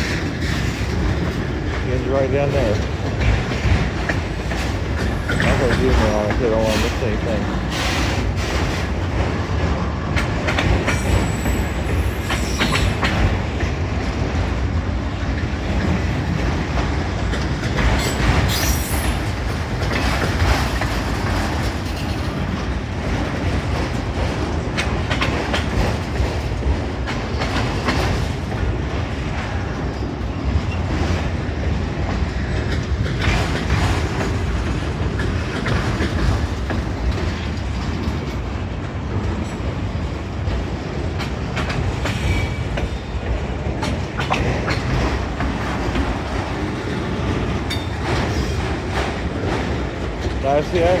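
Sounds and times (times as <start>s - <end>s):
freight train rumbling past: 0.0s - 51.0s
wheels clacking over rail joints: 0.0s - 51.0s.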